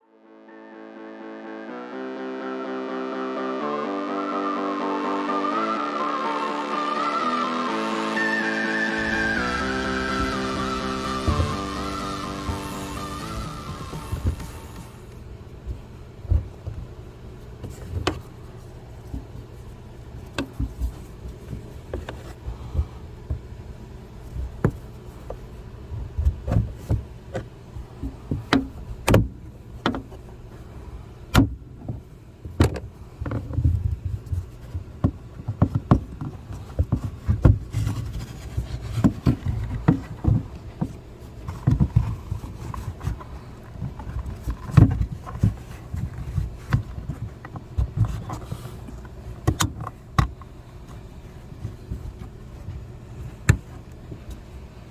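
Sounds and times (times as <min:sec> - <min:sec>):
steady low hum: 0:06.0 - 0:54.9.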